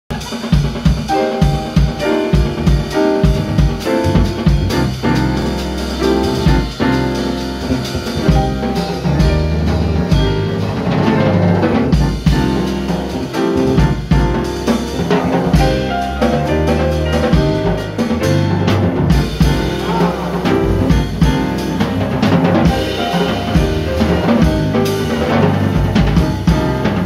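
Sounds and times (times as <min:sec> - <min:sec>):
drum kit played with sticks: 0:00.1 - 0:27.0
piano notes: 0:00.1 - 0:27.0
electric bass: 0:01.4 - 0:27.0.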